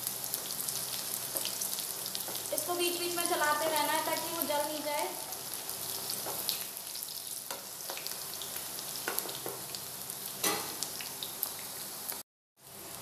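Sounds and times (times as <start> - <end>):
okra sizzling in hot oil: 0.0 - 13.0.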